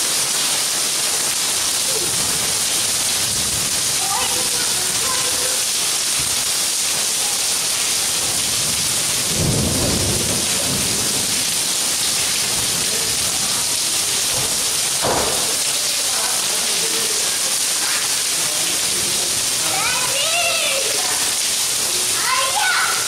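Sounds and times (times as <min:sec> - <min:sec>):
heavy rain on tiles: 0:00.0 - 0:23.0.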